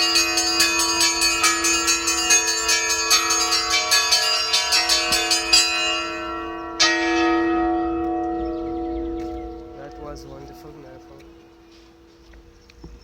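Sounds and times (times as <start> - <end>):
loud bell strike: 0.0 - 11.4
small church bells ringing rapidly: 0.0 - 12.1
hum of large bells: 0.0 - 12.2.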